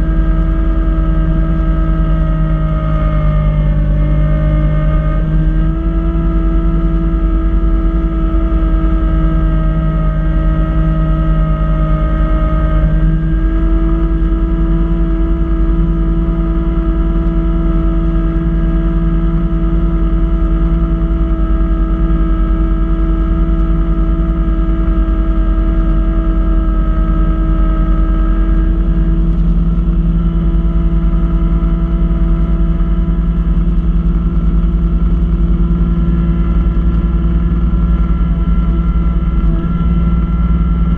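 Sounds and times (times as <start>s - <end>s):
snow blower whine: 0.0s - 40.9s.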